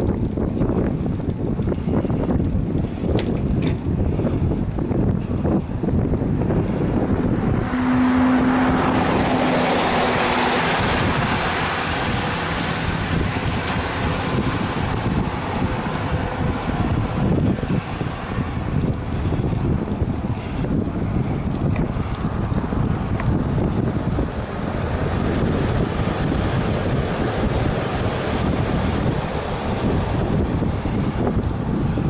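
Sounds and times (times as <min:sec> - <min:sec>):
low road rumble: 0:00.0 - 0:32.0
wind buffeting microphone: 0:00.0 - 0:32.0
vehicle passing: 0:06.1 - 0:32.0.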